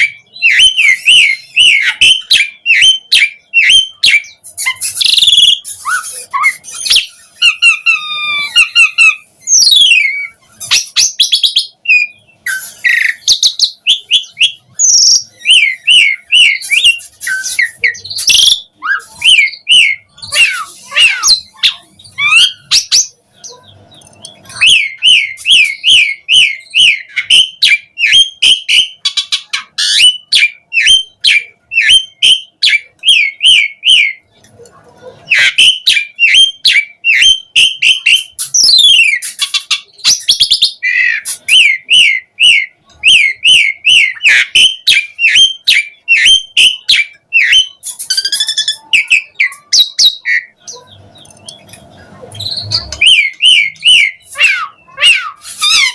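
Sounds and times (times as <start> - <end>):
starling singing: 0.0 - 55.9.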